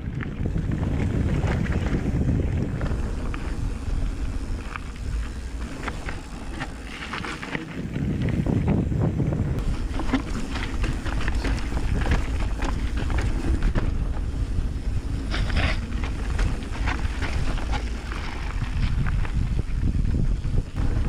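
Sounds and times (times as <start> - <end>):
bike chain and frame rattling: 0.0 - 8.9, 9.6 - 21.0
tyres on dirt: 0.0 - 21.0
wind buffeting microphone: 0.0 - 21.0.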